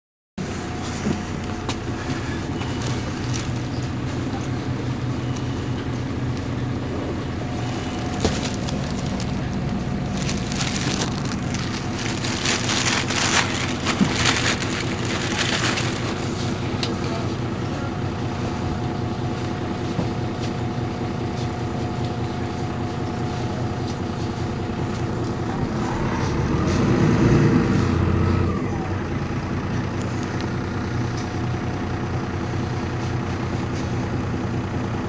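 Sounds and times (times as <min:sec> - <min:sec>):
bus diesel engine idling: 0:00.4 - 0:35.0.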